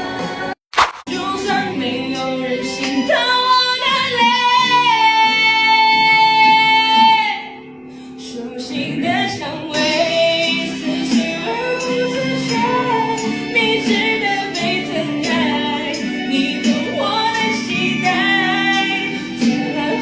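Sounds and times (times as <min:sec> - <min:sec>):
backing music: 0:00.0 - 0:20.0
young woman singing: 0:01.1 - 0:07.6, 0:08.2 - 0:20.0.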